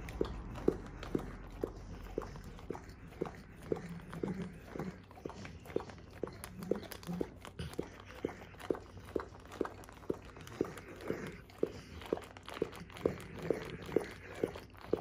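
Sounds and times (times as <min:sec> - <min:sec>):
dog licking: 0:00.0 - 0:15.0.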